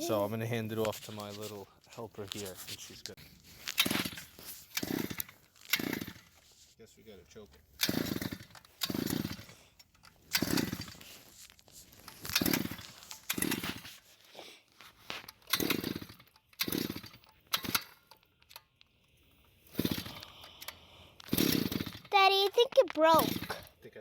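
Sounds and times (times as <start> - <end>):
small gas engine sputtering: 2.3 - 6.6, 7.2 - 18.3, 19.3 - 24.0.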